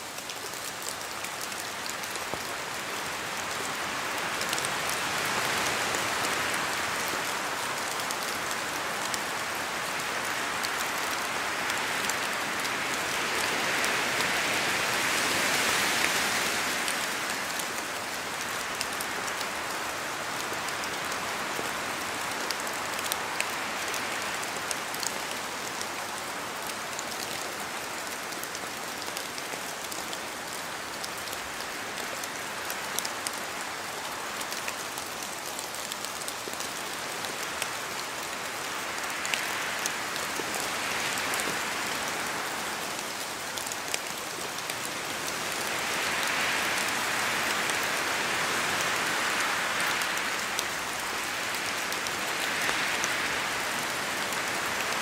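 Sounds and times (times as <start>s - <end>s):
rain falling through trees: 0.0s - 55.0s
raindrops ticking on leaves: 0.0s - 55.0s.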